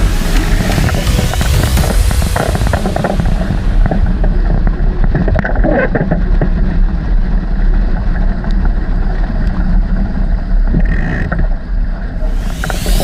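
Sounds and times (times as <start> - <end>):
water rushing along boat hull: 0.0 - 13.0.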